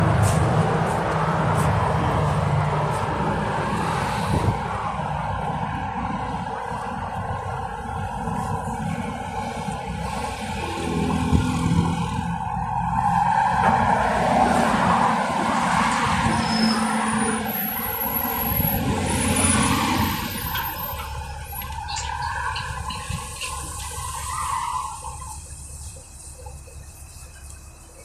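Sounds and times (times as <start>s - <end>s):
road and tyre noise: 0.0s - 28.0s.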